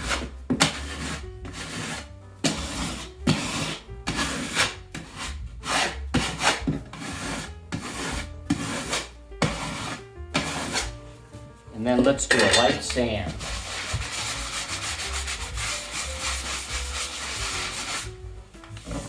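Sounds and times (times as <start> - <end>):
putty knife scraping compound: 0.0 - 11.2, 11.8 - 19.0.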